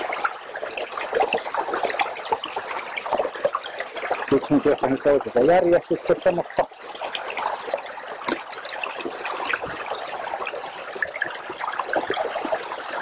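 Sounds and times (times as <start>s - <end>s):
stream babbling: 0.0s - 13.0s.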